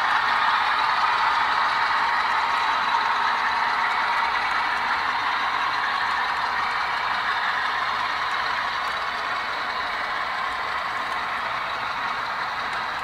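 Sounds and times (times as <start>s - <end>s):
model train wheels whirring on rail: 0.0s - 13.0s.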